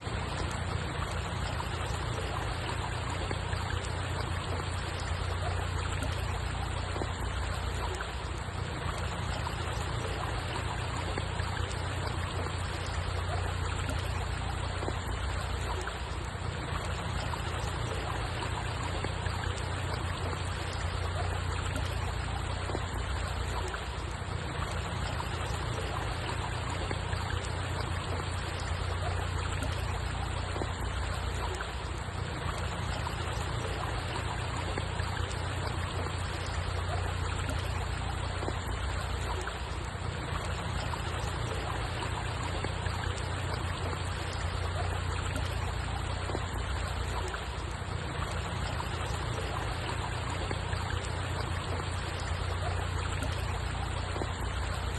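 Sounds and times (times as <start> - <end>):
water rushing: 0.0 - 54.9.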